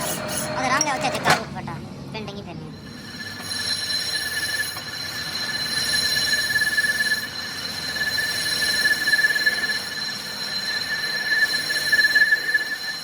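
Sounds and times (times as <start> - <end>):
metal squealing on metal: 0.0 - 1.4, 2.9 - 13.0.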